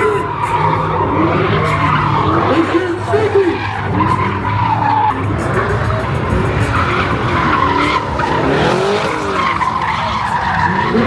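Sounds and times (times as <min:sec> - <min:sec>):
car engine revving: 0:00.0 - 0:11.0
tyres squealing on pavement: 0:00.0 - 0:11.0.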